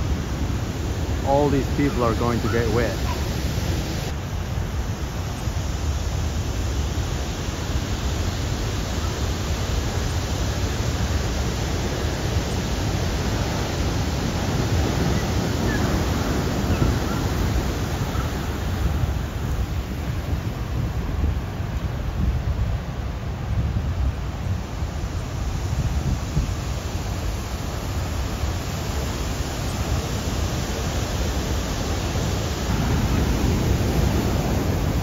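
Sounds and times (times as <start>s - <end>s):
heavy ocean surf breaking: 0.0s - 35.0s.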